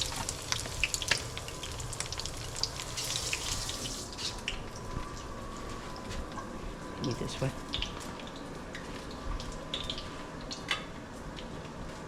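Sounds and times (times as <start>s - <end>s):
food frying with crackles: 0.0s - 12.0s.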